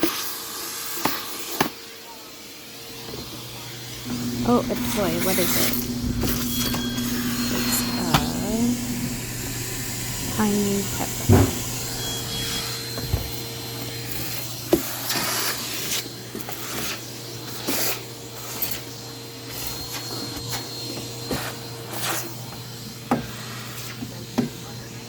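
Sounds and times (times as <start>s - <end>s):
vacuum cleaner humming: 0.0s - 25.0s.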